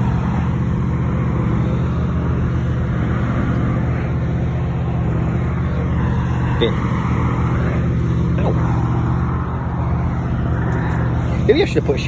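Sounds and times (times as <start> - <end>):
train engine droning: 0.0 - 12.0.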